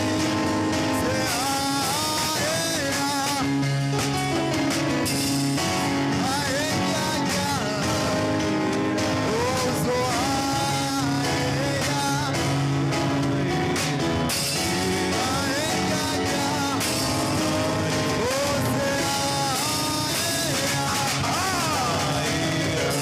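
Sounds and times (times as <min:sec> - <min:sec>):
band playing worship music: 0:00.0 - 0:23.0
person singing: 0:00.0 - 0:23.0.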